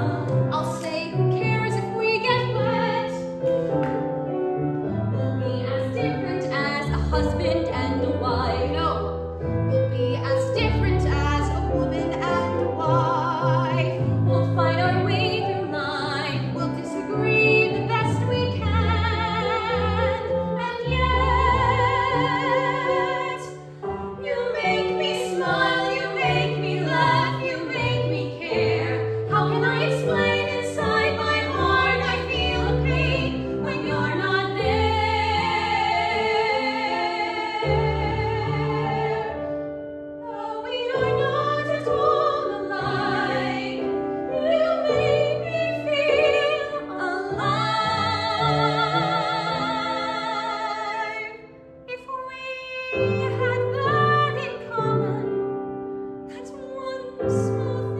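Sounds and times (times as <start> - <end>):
women singing a duet: 0.0 - 3.9, 5.2 - 9.2, 9.9 - 39.6, 40.2 - 55.4, 56.3 - 57.9.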